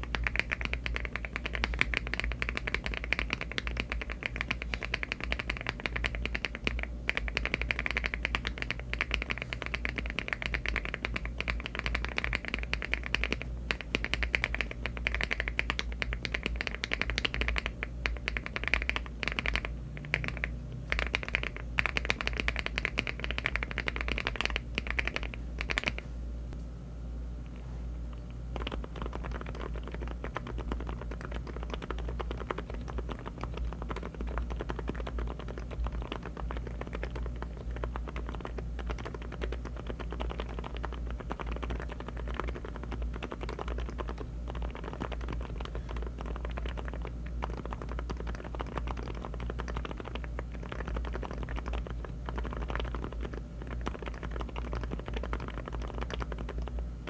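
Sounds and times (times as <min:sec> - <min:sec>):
fast typing on mechanical keyboard: 0:00.0 - 0:26.0, 0:28.5 - 0:56.9.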